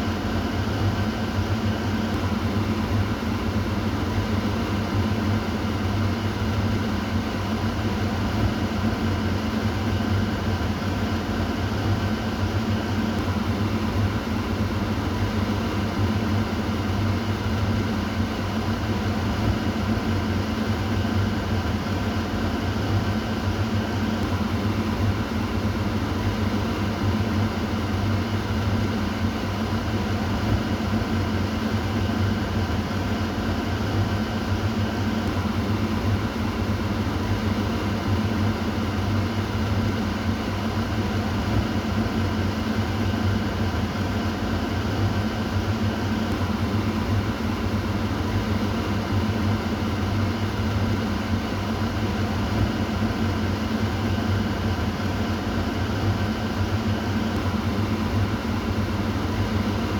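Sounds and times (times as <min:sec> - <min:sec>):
kitchen exhaust fan running: 0:00.0 - 0:59.9.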